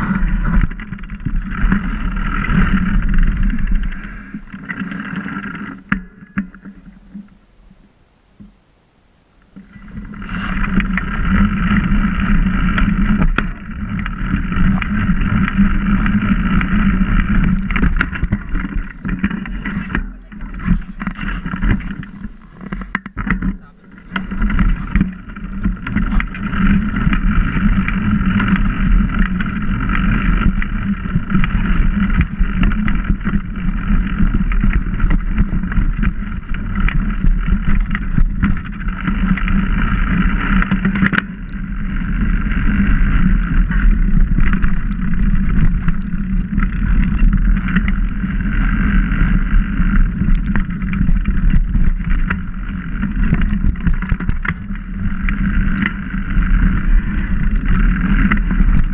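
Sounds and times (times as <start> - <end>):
mountain bike rumbling and rattling: 0.0 - 58.9
small clicks and knocks: 0.5 - 41.7, 42.7 - 48.3, 49.9 - 58.9.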